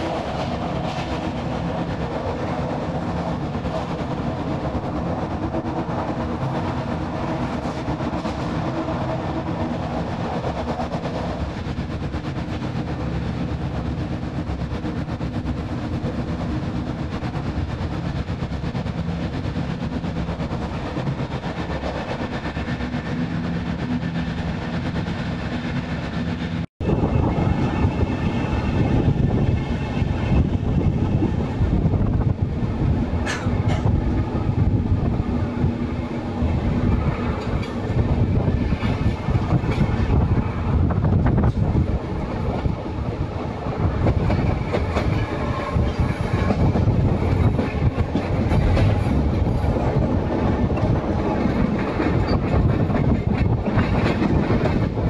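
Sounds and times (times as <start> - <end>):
train rattling over tracks: 0.0 - 55.0.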